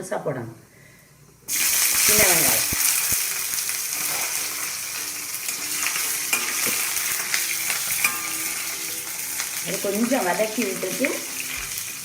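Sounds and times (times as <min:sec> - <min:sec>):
shallots sizzling in oil: 0:01.5 - 0:12.0
spoon scraping and knocking pan: 0:02.1 - 0:12.0.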